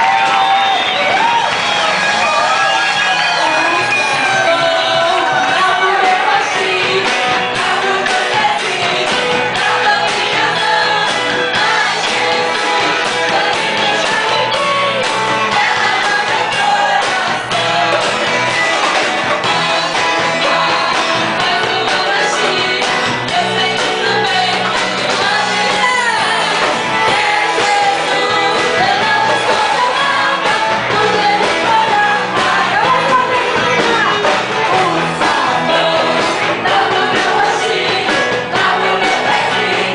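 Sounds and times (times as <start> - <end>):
worship song with instruments: 0.0 - 39.9.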